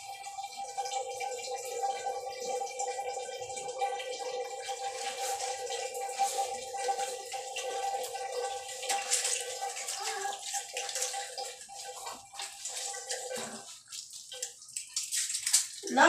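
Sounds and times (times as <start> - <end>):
shower water splashing: 0.0 - 16.0.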